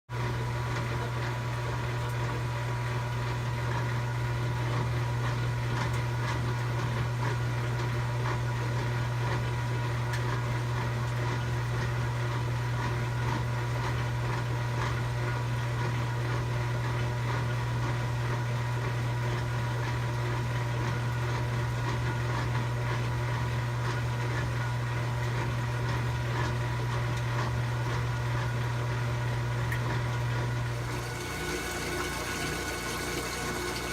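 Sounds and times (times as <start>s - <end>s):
washing machine whirring: 0.1s - 33.9s.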